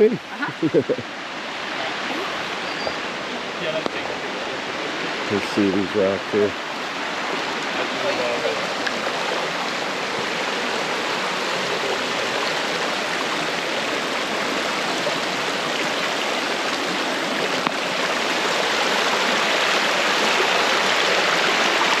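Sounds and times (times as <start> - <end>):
creek water running over rocks: 0.0 - 22.0.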